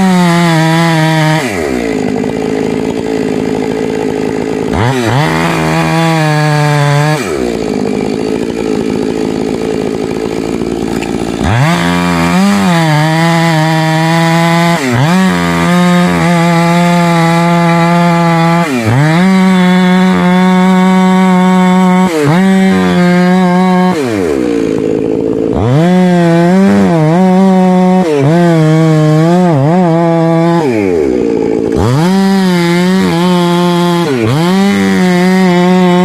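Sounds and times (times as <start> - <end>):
chainsaw cutting tree trunk: 0.0 - 36.0.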